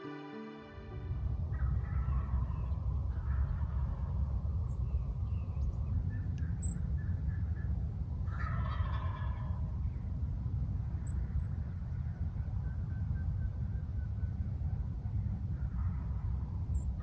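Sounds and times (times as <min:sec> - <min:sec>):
wind rumble on microphone: 0:01.1 - 0:17.0.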